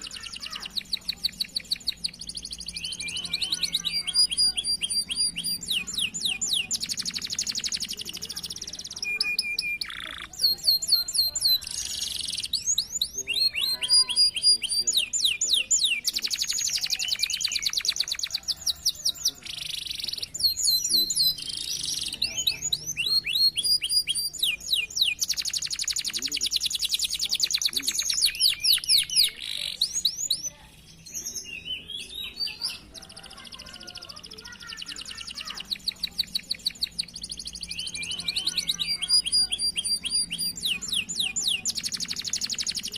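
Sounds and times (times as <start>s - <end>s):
canaries singing trills: 0.0s - 42.9s.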